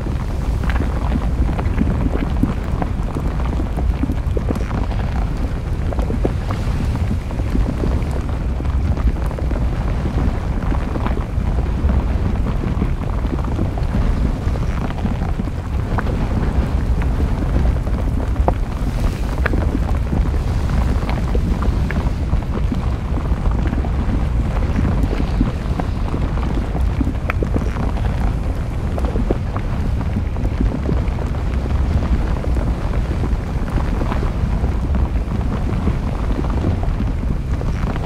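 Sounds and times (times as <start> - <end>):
volcano low rumble: 0.0 - 38.0
wind noise on microphone: 0.0 - 38.0.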